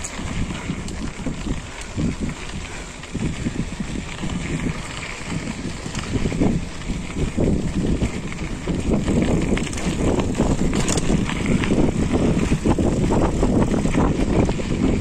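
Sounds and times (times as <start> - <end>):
bike rattling over bumps: 0.0 - 15.0
bike tyres rumbling on dirt: 0.0 - 15.0
wind buffeting microphone: 0.0 - 15.0.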